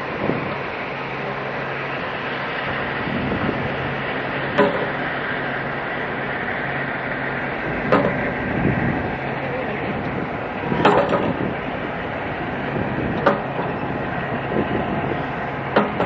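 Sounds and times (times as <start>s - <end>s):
rumbling wash of ship: 0.0s - 16.0s
ship engines humming: 0.0s - 16.0s.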